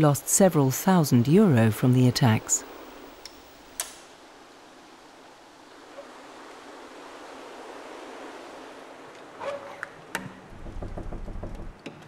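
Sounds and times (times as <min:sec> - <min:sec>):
surf: 0:00.0 - 0:10.5
wind: 0:00.0 - 0:12.0.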